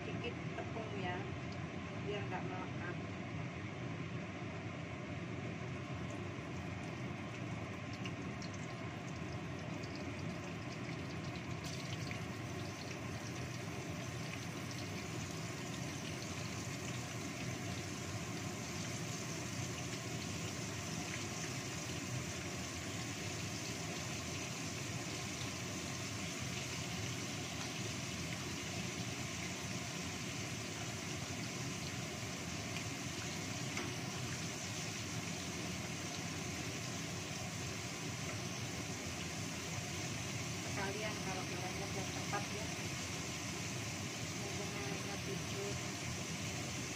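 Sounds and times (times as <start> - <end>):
extractor fan running: 0.0 - 46.9
fish sizzling in hot oil: 5.6 - 46.9.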